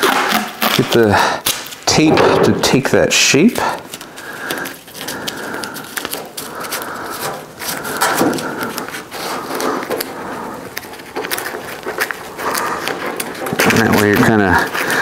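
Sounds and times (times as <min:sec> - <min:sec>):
masking tape crinkling: 0:00.0 - 0:15.0.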